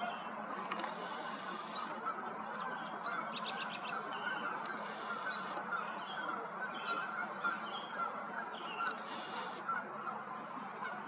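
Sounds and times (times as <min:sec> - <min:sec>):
chorus of birds calling: 0:00.0 - 0:11.0.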